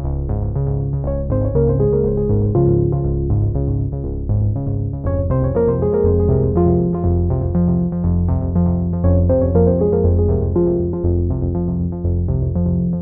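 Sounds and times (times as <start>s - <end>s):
background music melody: 0.0s - 13.0s
low bass notes: 0.0s - 13.0s.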